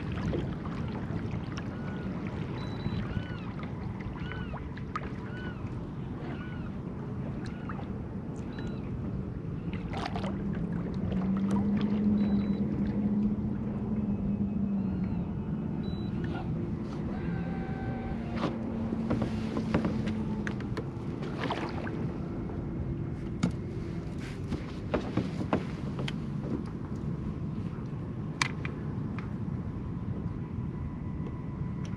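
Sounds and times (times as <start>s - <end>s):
boat motor humming: 0.0s - 31.9s.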